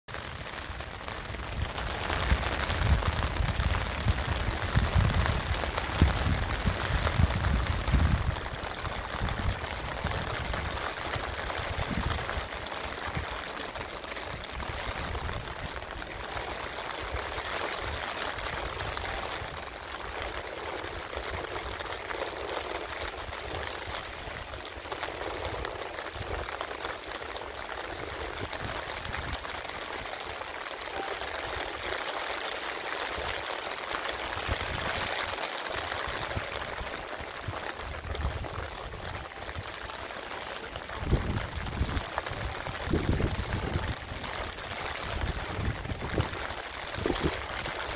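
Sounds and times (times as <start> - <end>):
rain falling on water and paving: 0.1 - 47.9.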